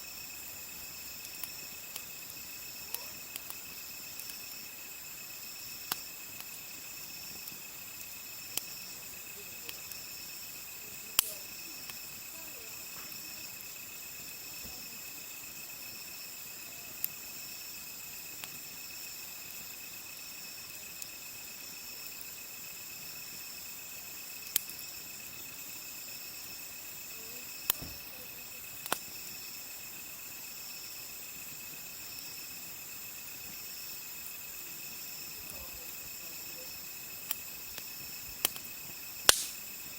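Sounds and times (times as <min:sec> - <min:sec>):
insects chirping: 0:00.0 - 0:39.9
wood fire popping and crackling: 0:00.0 - 0:39.9.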